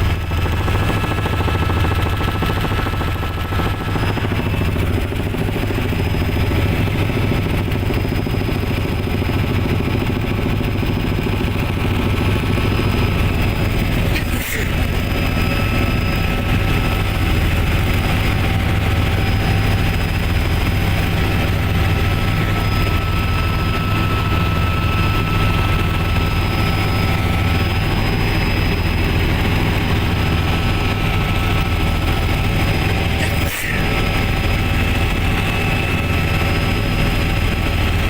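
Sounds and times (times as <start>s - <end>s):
helicopter rotor drone: 0.0s - 38.0s
high turbine whine: 0.0s - 38.0s.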